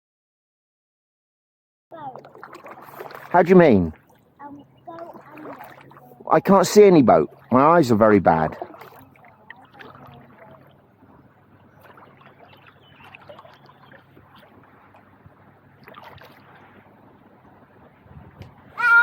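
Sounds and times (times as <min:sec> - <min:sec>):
paddle dips and splashes: 0:01.9 - 0:19.0.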